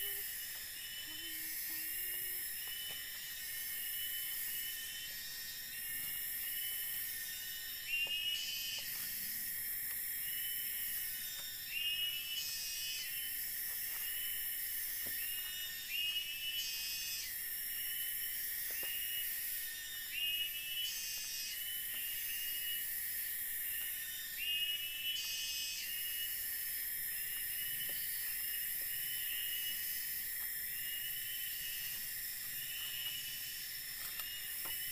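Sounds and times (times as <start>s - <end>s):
insect buzzing drone: 0.0s - 34.9s
insect rising call: 0.0s - 34.9s.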